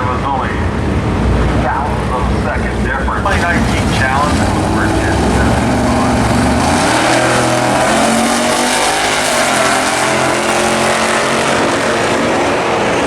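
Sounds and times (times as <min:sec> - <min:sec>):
drag racing car engines revving: 0:00.0 - 0:13.0.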